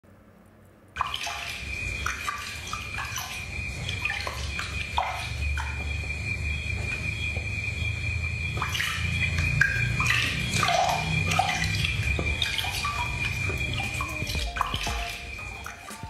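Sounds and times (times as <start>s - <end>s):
water splashing in plastic basin: 1.0s - 16.0s
steady high-pitched tone: 1.4s - 16.0s.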